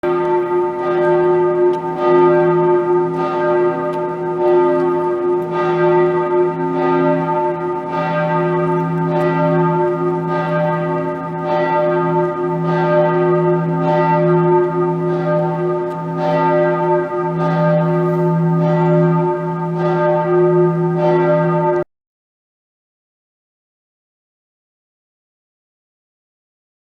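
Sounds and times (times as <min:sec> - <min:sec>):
church bell ringing: 0:00.0 - 0:21.9.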